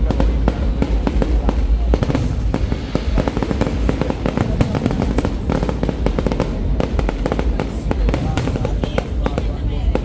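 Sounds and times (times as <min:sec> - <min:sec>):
fireworks crackling: 0:00.0 - 0:10.0
low rumble of booms: 0:00.0 - 0:10.0.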